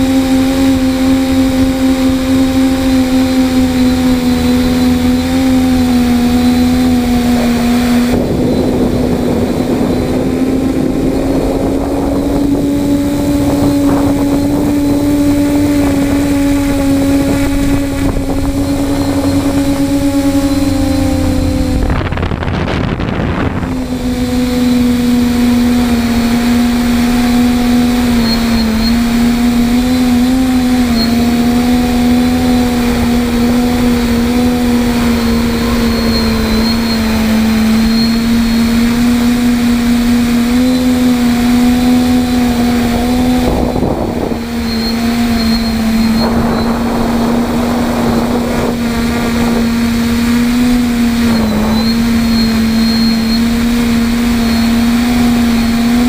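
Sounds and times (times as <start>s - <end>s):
quadcopter propellers droning: 0.0s - 56.0s
wind buffeting microphone: 0.0s - 56.0s.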